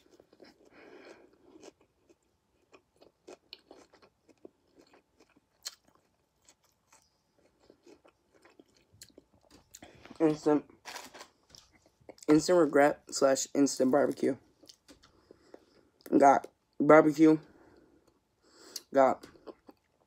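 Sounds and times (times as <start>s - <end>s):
chewing food: 0.0s - 10.3s, 10.9s - 12.4s, 14.5s - 16.6s, 17.7s - 20.0s.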